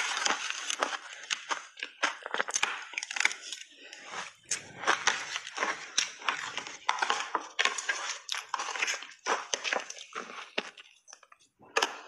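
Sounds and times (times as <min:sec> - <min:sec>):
ice crunching being chewed: 0:00.0 - 0:12.0.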